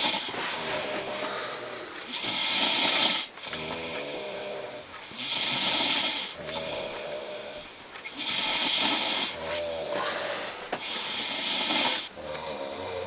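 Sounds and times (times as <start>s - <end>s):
person snoring: 0.0s - 13.0s.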